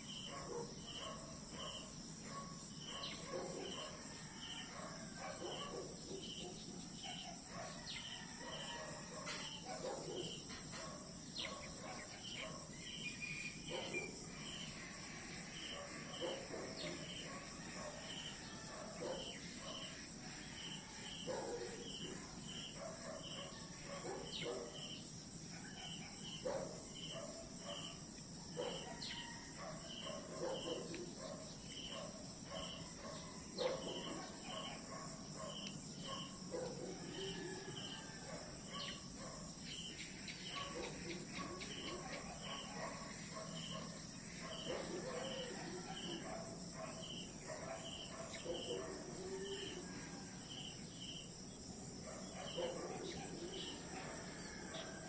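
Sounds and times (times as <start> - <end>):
cricket chirping in pairs: 0.0 - 55.0
high-pitched insect trill: 0.0 - 55.0.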